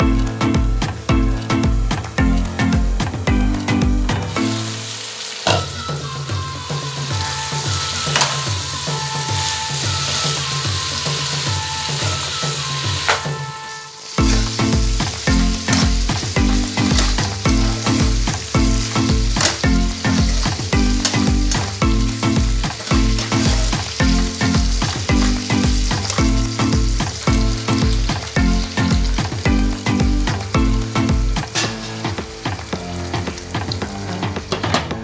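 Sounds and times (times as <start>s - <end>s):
background music with steady beat: 0.0s - 35.0s
food sizzling in a frying pan: 4.1s - 35.0s.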